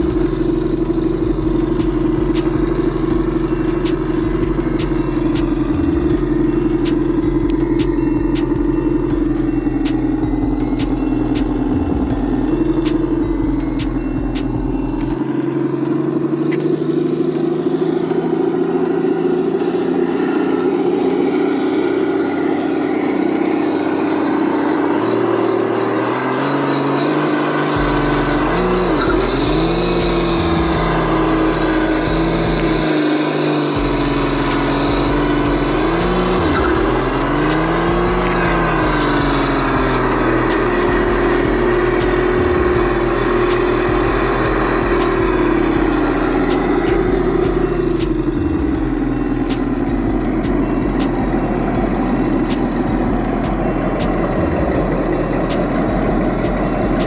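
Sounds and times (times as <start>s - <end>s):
simulated engine idling and revving: 0.0s - 57.0s.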